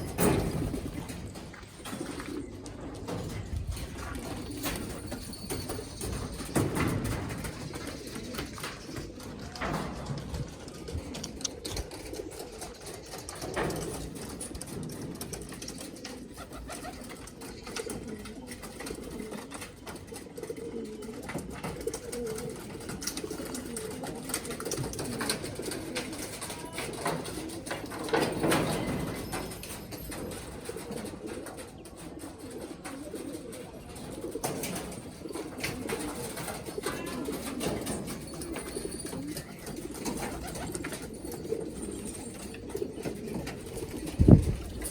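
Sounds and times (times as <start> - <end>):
pigeons cooing: 0.0 - 44.9.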